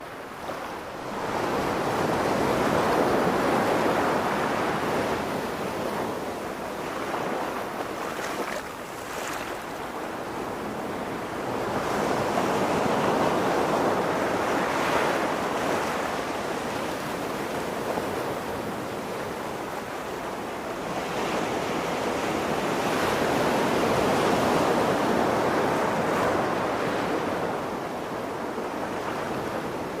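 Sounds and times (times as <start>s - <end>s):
ocean waves washing ashore: 0.0s - 30.0s.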